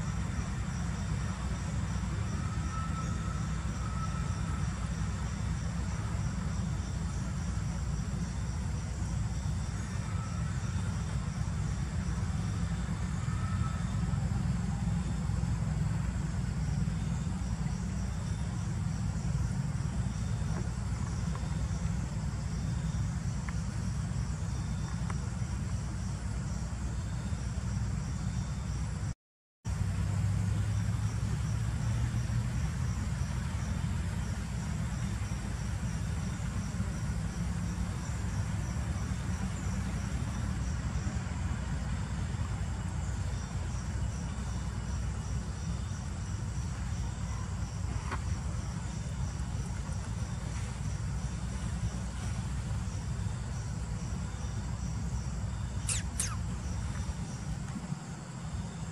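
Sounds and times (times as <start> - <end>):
high insect whine: 0.0 - 58.9
insects chirping: 0.0 - 58.9.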